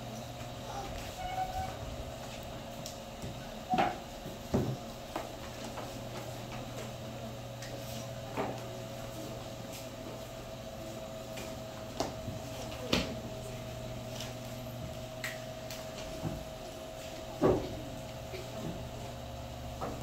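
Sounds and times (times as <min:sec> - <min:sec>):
steady room hum: 0:00.0 - 0:20.0.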